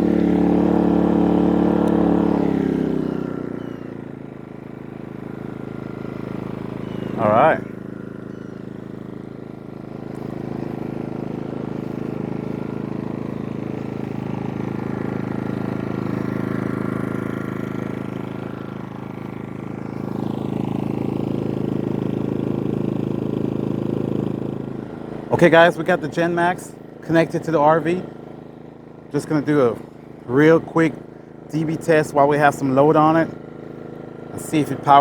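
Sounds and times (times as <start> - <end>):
generator running: 0.0 - 35.0.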